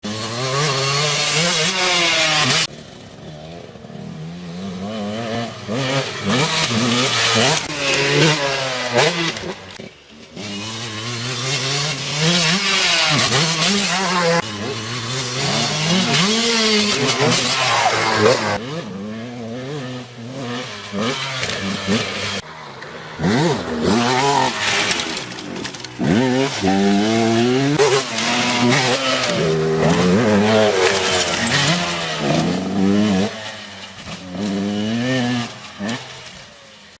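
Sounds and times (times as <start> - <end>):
motorcycle engines revving: 0.0 - 37.0.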